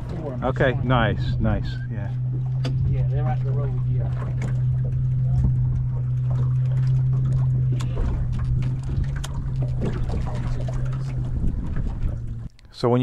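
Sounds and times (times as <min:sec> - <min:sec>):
electric motor humming: 0:00.0 - 0:12.5
low rumble: 0:00.0 - 0:12.6.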